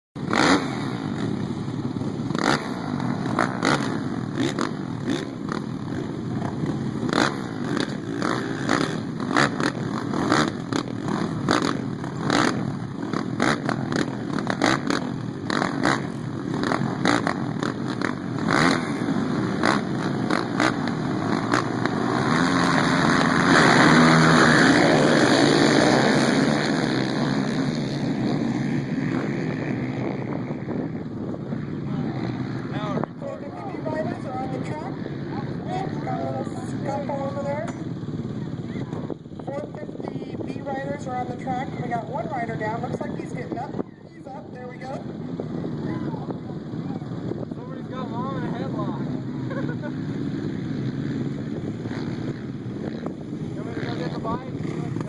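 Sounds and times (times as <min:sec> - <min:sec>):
motocross bikes revving: 0:00.2 - 0:55.0.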